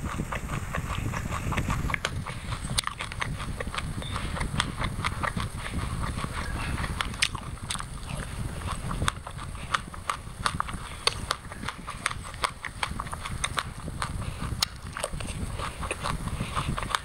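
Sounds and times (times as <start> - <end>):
seeds crunching while chewing: 0.0 - 17.0
wet mouth clicks: 0.0 - 17.0.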